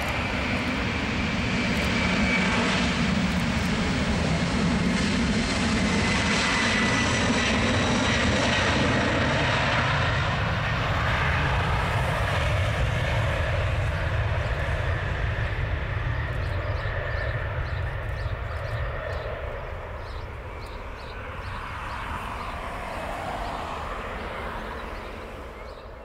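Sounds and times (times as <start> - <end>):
jet engine roar on takeoff: 0.0 - 26.0.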